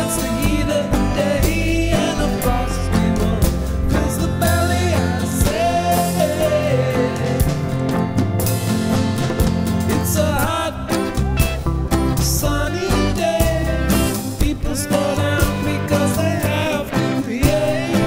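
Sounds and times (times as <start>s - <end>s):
song with vocals drums and bass: 0.0s - 18.0s.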